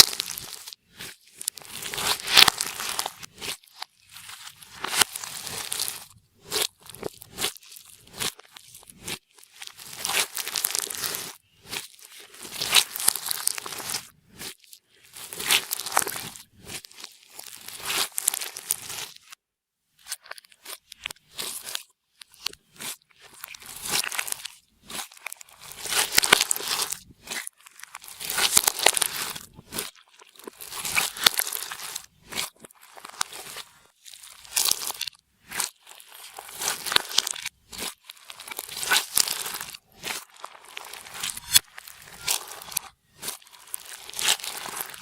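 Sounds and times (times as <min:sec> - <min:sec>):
slime squished crackling: 0:00.0 - 0:00.7, 0:01.3 - 0:14.4, 0:15.1 - 0:19.1, 0:23.5 - 0:45.0.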